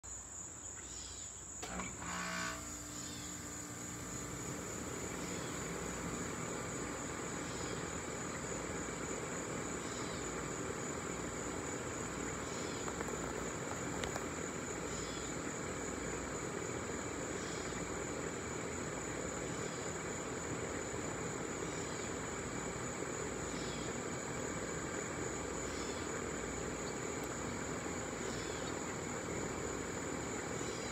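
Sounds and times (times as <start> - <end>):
high insect whine: 0.0 - 30.9
short insect chirp: 0.0 - 30.9
jet engines rumbling: 4.1 - 30.9.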